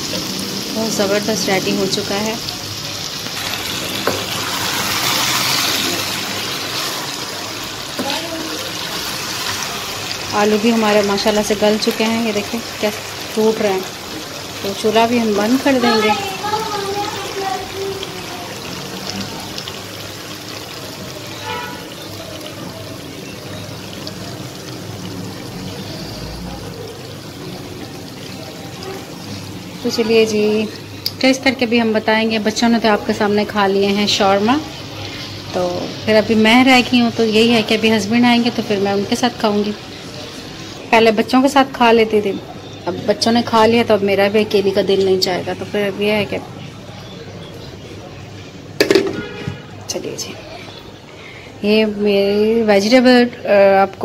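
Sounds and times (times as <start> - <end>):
curry sizzling and bubbling in oil: 0.0 - 51.2.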